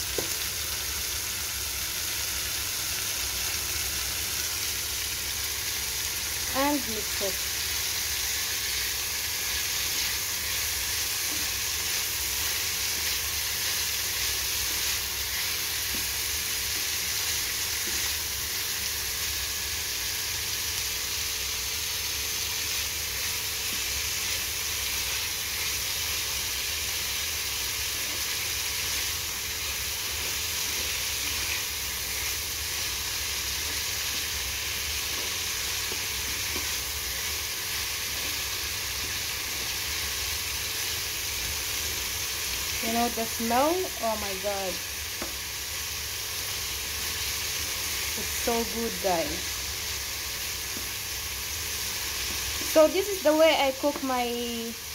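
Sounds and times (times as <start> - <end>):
vegetables sizzling in oil: 0.0 - 54.9.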